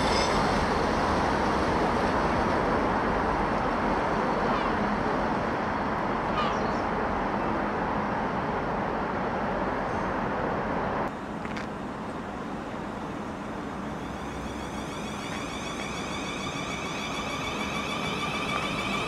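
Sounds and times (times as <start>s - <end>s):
train engine and wheels rumbling: 0.0s - 19.0s.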